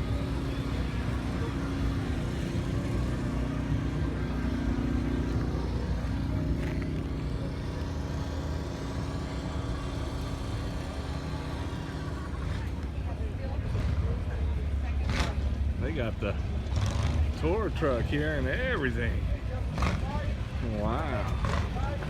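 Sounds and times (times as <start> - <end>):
car engine running at low speed: 0.0 - 22.0.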